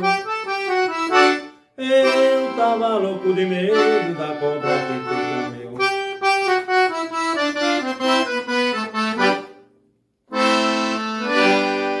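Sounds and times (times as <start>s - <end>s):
accordion playing: 0.0s - 12.0s.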